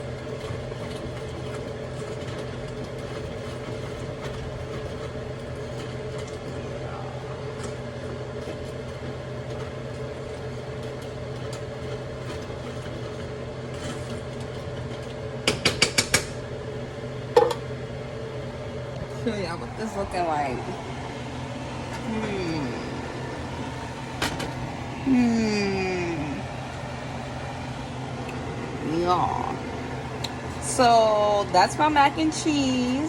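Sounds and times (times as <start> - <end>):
kitchen hum: 0.0 - 33.0.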